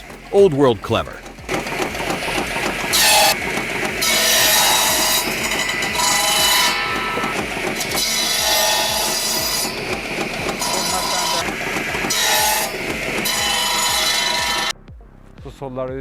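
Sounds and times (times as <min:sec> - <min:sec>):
flywheel wood slicer clattering: 0:00.0 - 0:14.7.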